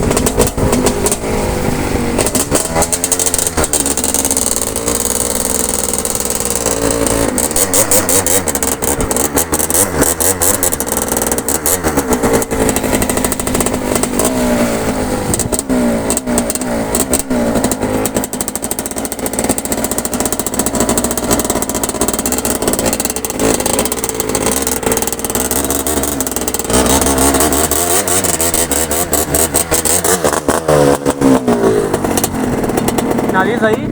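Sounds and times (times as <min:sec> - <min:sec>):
engine revving: 0:00.0 - 0:33.9.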